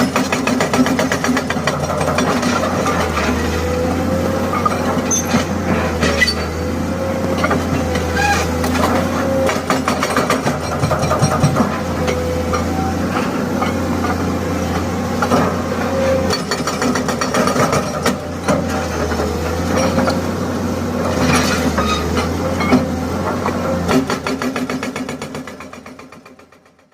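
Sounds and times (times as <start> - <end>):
hydraulic breaker hammering concrete: 0.0 - 6.7, 7.4 - 15.6, 16.2 - 20.2, 21.2 - 26.9
excavator diesel engine running: 0.0 - 26.8.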